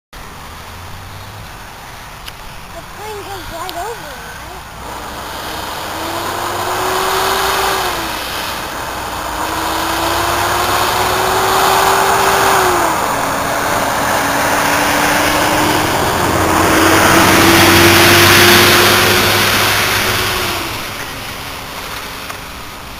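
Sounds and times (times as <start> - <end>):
jet engines rumbling and whining: 2.2 - 22.9.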